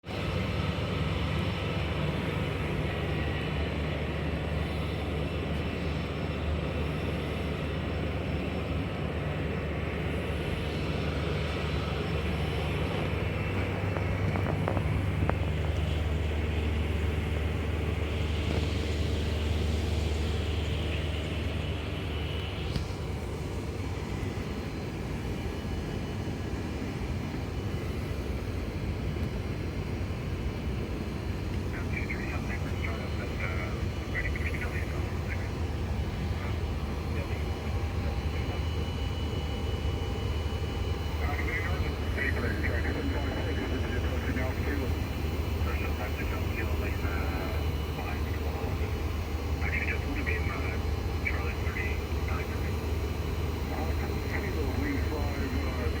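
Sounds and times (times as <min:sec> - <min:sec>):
aircraft cockpit drone: 0:00.0 - 0:56.0.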